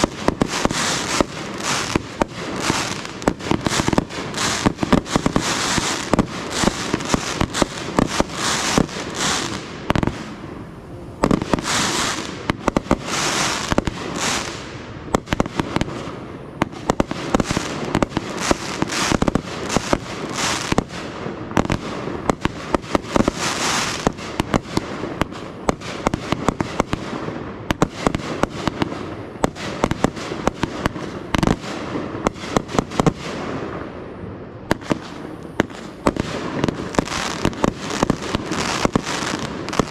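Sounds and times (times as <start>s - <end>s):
crackling hissing firework bursts: 0.0s - 34.0s, 34.7s - 39.9s
fireworks bangs: 0.0s - 39.9s.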